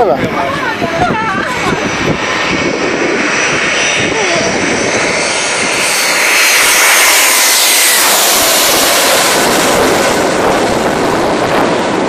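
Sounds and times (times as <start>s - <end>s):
jet airliner passing overhead: 0.0s - 12.0s.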